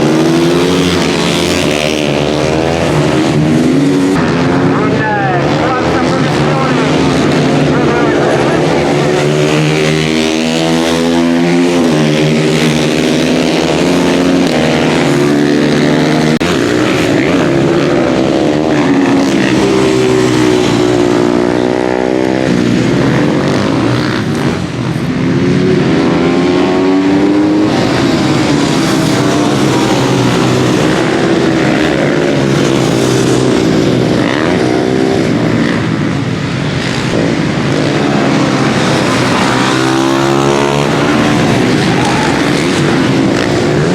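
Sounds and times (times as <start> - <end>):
racing motorcycles revving: 0.0 - 43.9.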